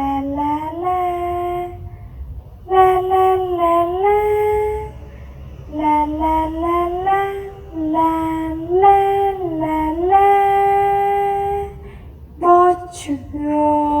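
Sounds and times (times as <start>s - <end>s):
high voice singing la la: 0.0s - 2.0s, 2.6s - 14.0s.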